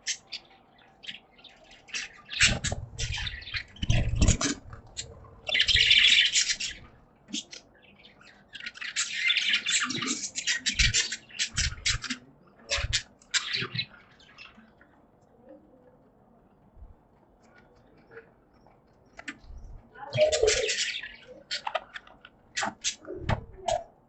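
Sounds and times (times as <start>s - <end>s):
budgerigars chirping: 0.0s - 14.7s, 19.2s - 23.9s.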